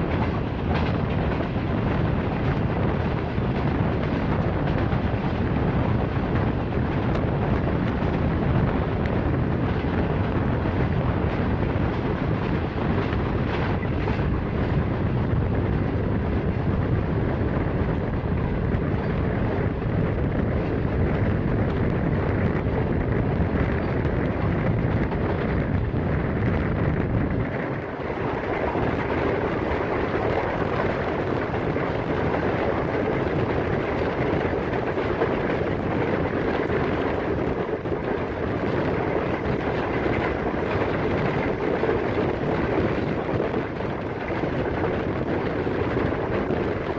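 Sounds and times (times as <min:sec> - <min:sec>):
train wheels on rail: 0:00.0 - 0:46.9.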